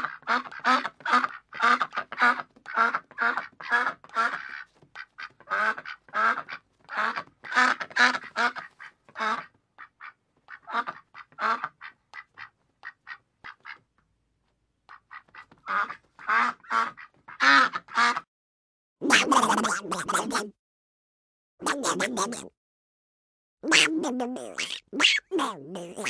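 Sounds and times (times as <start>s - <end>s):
duck quacking: 0.0s - 13.8s, 14.9s - 18.3s, 19.0s - 20.5s, 21.6s - 22.5s, 23.6s - 26.0s.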